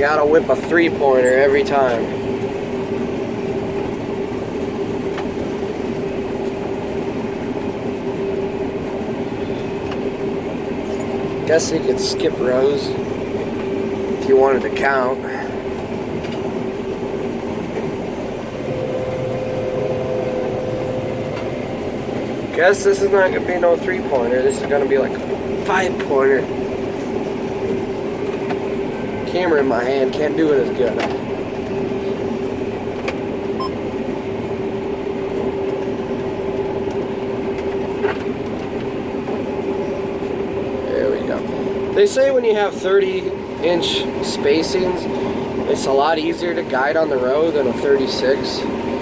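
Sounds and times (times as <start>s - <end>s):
combine harvester drone: 0.0s - 49.0s
steady whine: 0.0s - 49.0s.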